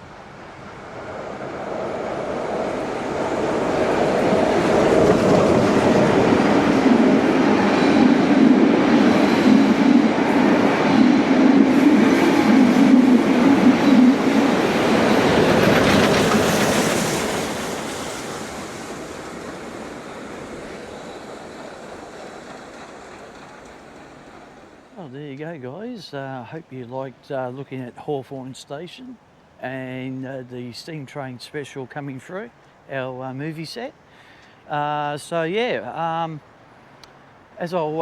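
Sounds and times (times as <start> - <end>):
train passing: 0.0 - 38.0.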